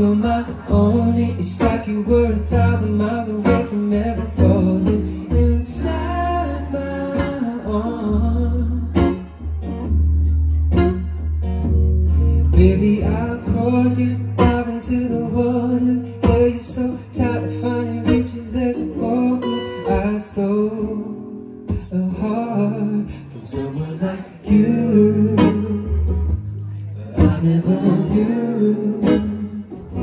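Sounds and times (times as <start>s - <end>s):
man singing: 0.0s - 9.5s, 12.4s - 30.0s
acoustic guitar strumming: 0.0s - 30.0s.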